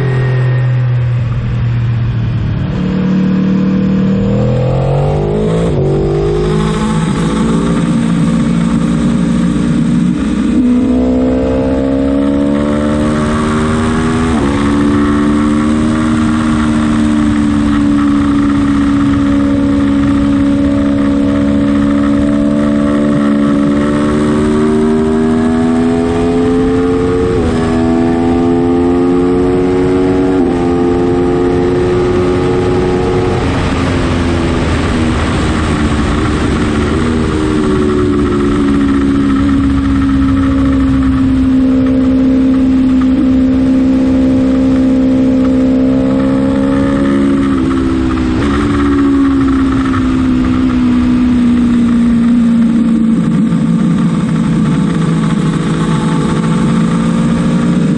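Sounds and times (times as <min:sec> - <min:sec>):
motorcycle engine revving: 0:00.0 - 0:57.9
wind noise: 0:00.0 - 0:57.9.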